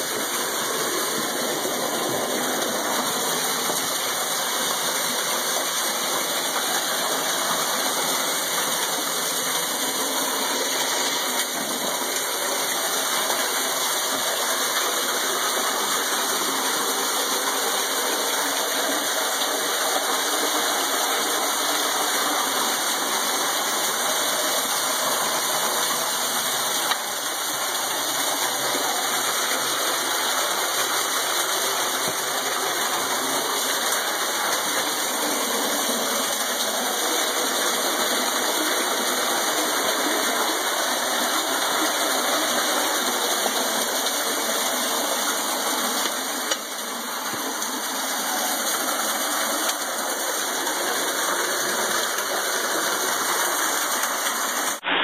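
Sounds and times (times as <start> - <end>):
waterfall splashing onto rock: 0.0 - 55.0.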